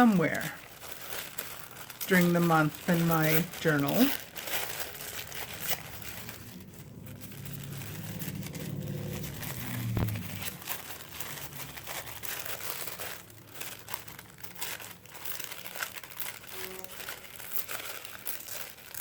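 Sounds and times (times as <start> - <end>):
paper wrapping crinkling: 0.0 - 19.0.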